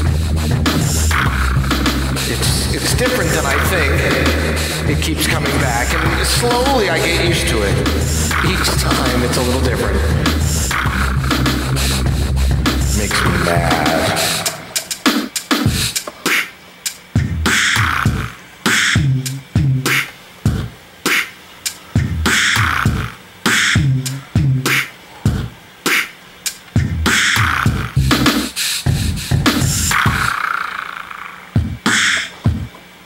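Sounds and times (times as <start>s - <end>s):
beatboxing vocal percussion: 0.0s - 33.0s.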